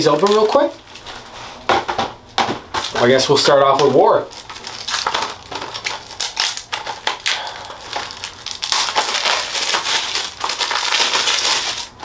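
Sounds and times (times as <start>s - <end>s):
plastic wrap crinkling and tearing: 0.0s - 12.0s.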